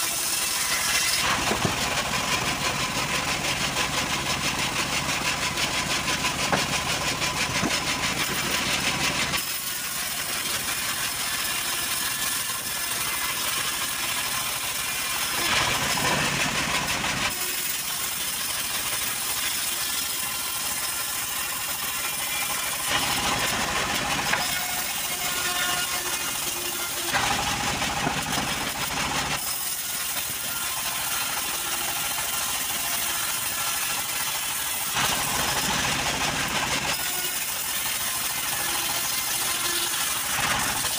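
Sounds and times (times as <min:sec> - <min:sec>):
band saw cutting timber: 0:00.0 - 0:40.9.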